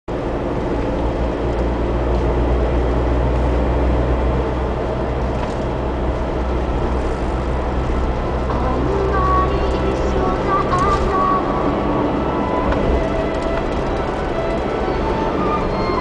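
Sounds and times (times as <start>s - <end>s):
car engine and tyre noise: 0.1s - 16.0s.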